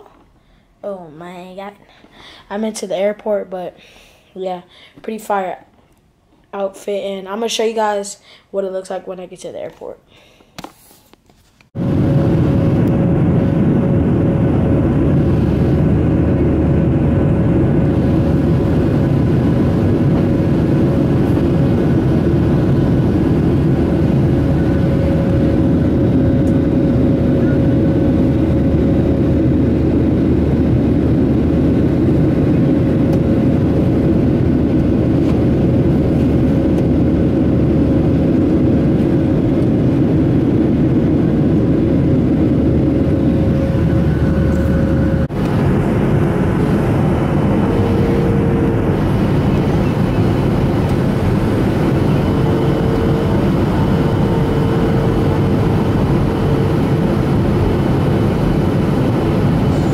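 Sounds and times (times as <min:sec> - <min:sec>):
faint steady hum: 0:00.0 - 0:59.9
jet engine and airflow rush: 0:11.7 - 0:59.9.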